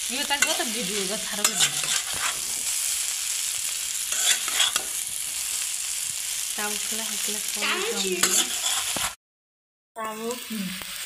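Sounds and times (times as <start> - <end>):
noodles sizzling in hot oil: 0.0 - 9.2, 10.0 - 11.0.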